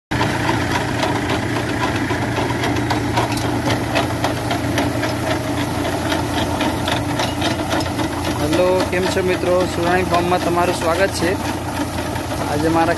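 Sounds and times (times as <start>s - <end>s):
tractor engine running: 0.1s - 12.9s.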